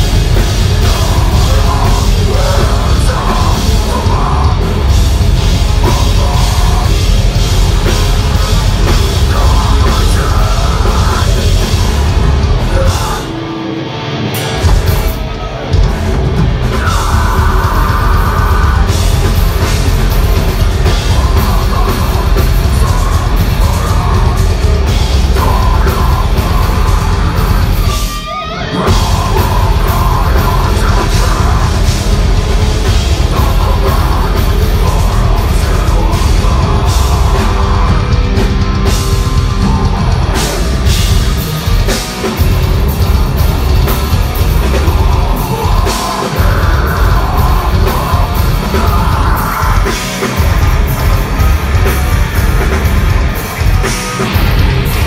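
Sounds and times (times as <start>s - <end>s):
heavy metal band playing live: 0.0s - 55.0s.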